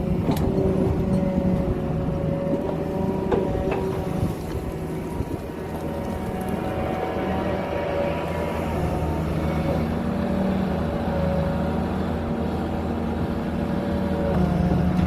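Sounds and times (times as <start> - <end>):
diesel engine running: 0.0 - 15.0
steady engine whine: 0.0 - 15.0.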